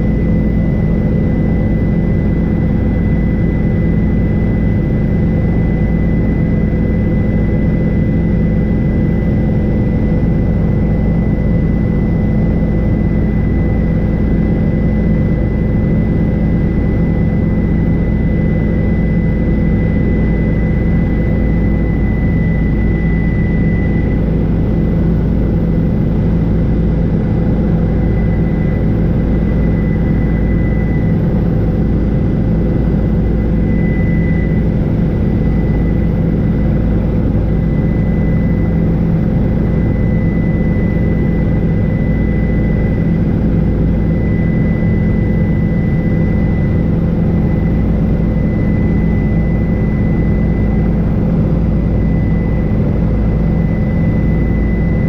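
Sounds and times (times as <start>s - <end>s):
helicopter engine and rotors drone: 0.0s - 55.0s
high-pitched whine: 0.0s - 55.0s.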